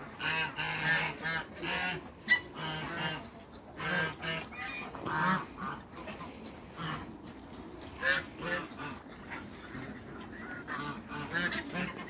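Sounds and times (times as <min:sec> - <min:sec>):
ducks and geese calling: 0:00.0 - 0:12.0.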